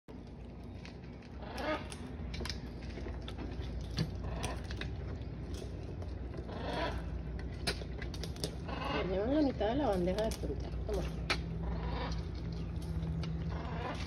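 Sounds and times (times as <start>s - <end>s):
steady low rumble: 0.1s - 14.0s.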